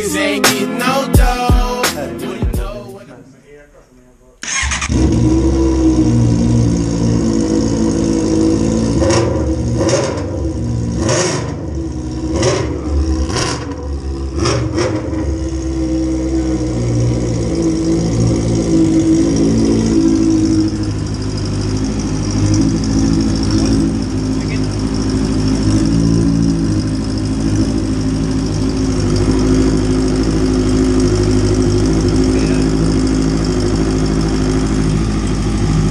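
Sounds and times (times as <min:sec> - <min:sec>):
motorcycle engine idling: 0:04.5 - 0:35.9.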